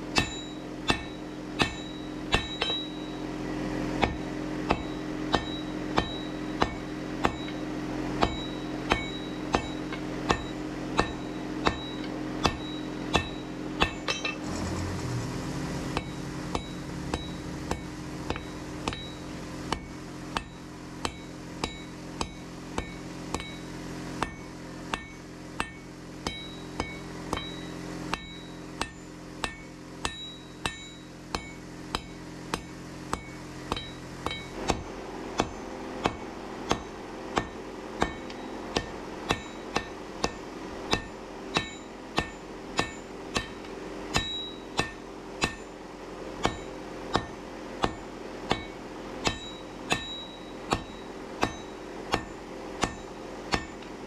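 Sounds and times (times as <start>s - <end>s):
hammer striking blade on anvil: 0.0s - 3.2s, 4.0s - 45.8s, 46.4s - 54.0s
steady low hum: 0.0s - 54.0s.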